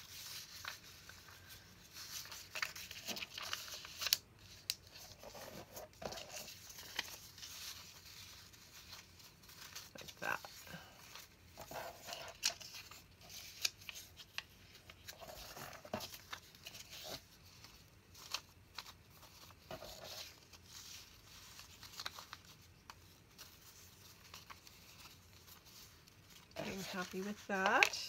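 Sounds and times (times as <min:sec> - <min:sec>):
paper rustling and crinkling: 0:00.0 - 0:28.0.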